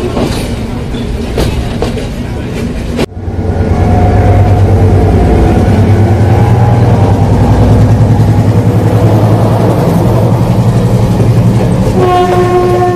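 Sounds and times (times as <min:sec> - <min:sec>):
train diesel engine throbbing: 0:01.9 - 0:12.9.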